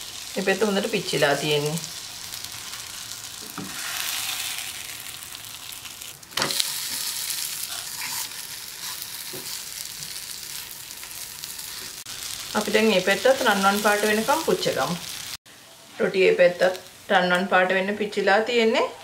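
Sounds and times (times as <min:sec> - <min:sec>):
flatbread sizzling in oil: 0:00.0 - 0:15.4.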